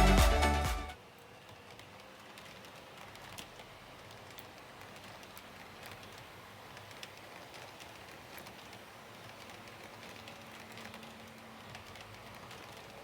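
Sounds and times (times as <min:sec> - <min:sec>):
model train whirring: 0:01.0 - 0:13.0
small clicks: 0:01.1 - 0:13.0.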